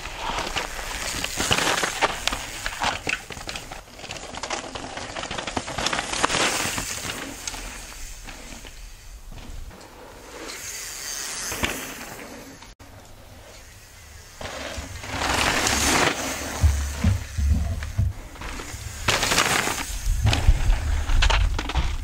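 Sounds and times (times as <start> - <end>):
bike tyres rolling over gravel: 0.0 - 22.0.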